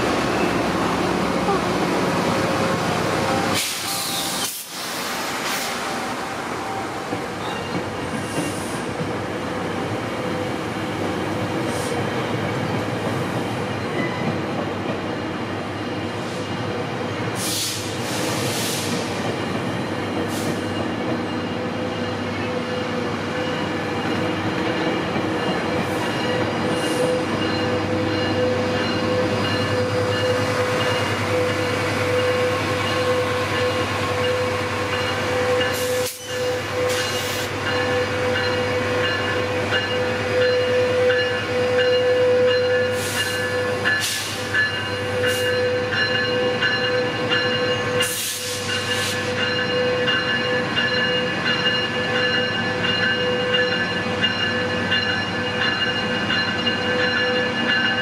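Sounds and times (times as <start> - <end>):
train engine drone: 0.0 - 58.0.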